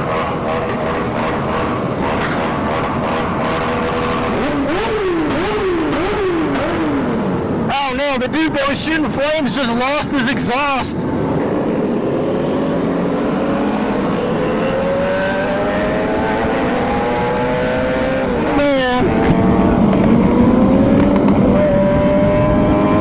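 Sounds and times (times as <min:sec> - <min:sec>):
motorcycle engine accelerating: 0:00.0 - 0:08.0, 0:11.3 - 0:23.0.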